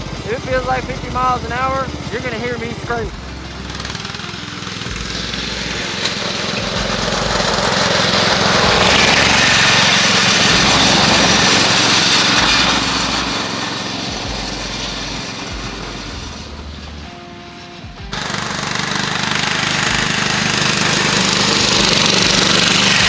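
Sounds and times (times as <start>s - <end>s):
riding lawn mower engine running: 0.0s - 23.0s.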